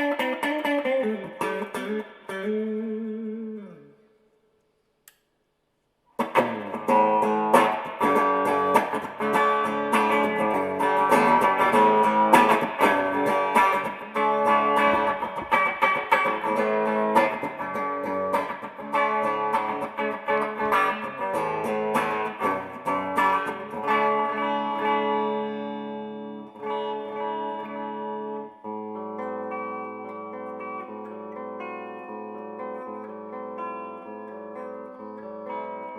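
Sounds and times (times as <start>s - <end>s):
electric guitar playing: 0.0s - 4.5s, 6.1s - 35.9s.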